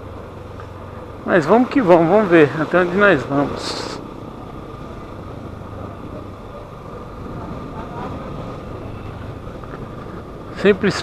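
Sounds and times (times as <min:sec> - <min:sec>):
motorcycle engine humming: 0:00.0 - 0:11.0
wind and road noise: 0:00.0 - 0:11.0.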